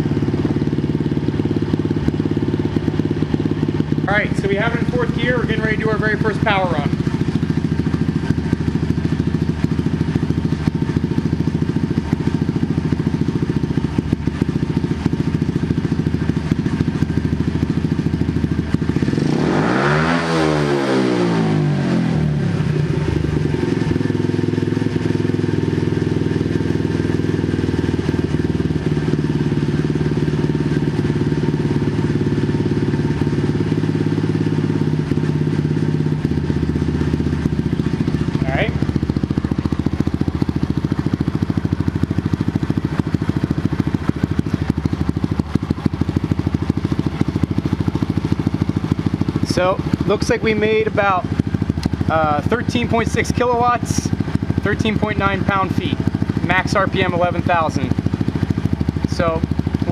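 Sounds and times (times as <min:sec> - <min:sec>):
race bike engine revving on dyno: 0:00.0 - 0:59.9.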